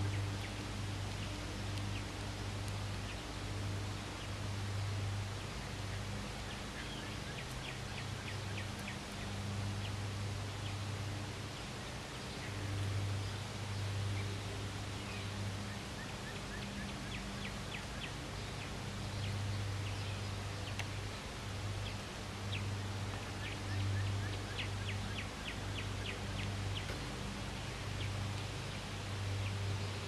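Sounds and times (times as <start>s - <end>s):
outdoor hiss: 0.0s - 30.0s
small birds chirping: 0.0s - 30.0s.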